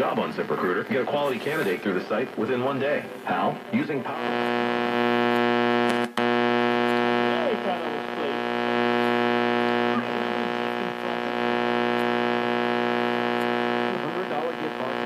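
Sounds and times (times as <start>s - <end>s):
faint broadcast speech: 0.0s - 15.0s
radio buzzing hum: 0.0s - 15.0s.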